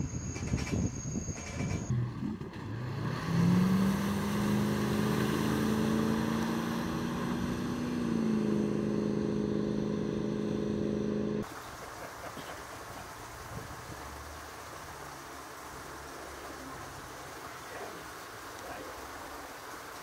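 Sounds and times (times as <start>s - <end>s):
wind: 0.0s - 20.0s
boat engine: 1.8s - 18.0s
water noise: 1.9s - 20.0s.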